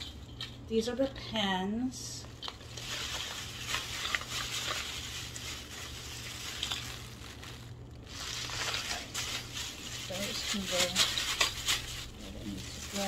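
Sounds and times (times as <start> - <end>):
plastic bag crinkling: 2.2 - 13.0.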